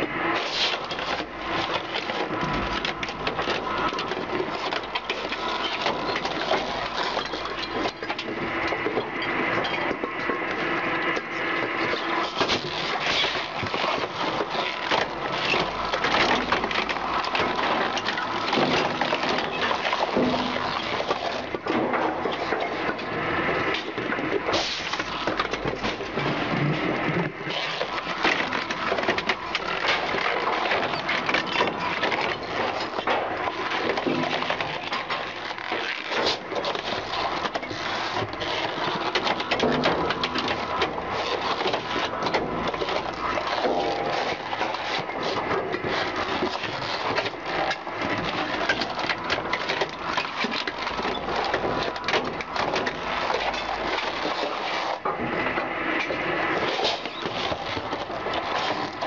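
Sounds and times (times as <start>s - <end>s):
sharp cracks and knocks: 0.0s - 59.0s
shredder grinding tyres: 0.0s - 59.0s.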